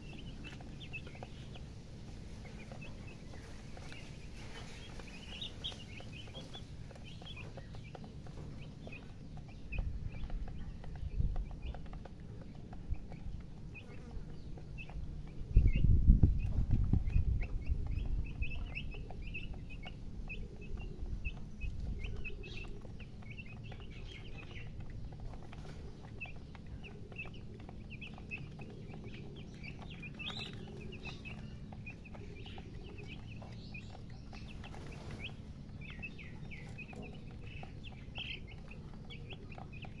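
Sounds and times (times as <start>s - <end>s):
baby chicks peeping: 0.0s - 40.0s
low rumbling: 0.0s - 40.0s.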